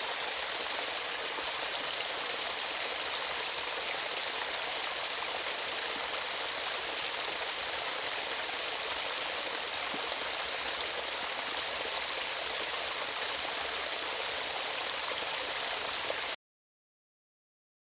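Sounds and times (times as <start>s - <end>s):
stream water rushing: 0.0s - 16.4s.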